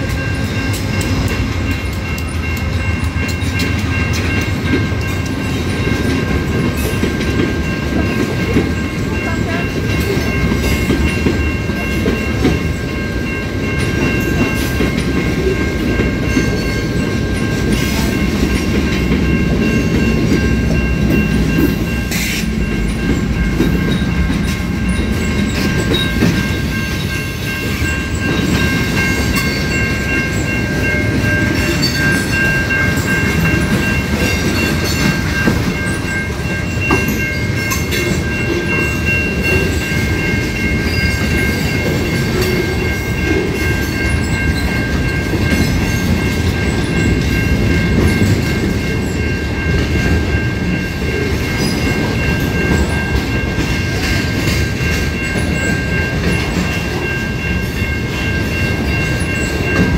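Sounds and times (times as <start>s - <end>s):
train cars rumbling: 0.0s - 59.9s.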